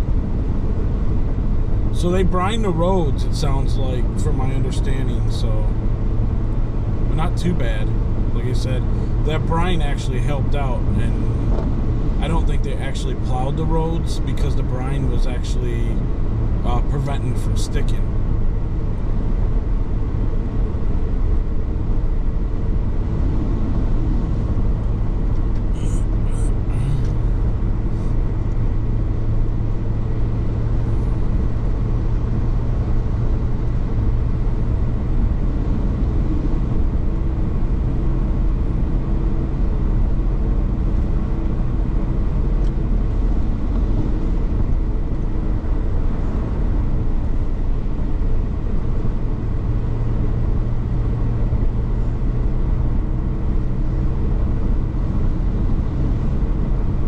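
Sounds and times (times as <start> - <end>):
car engine hum: 0.0 - 57.0.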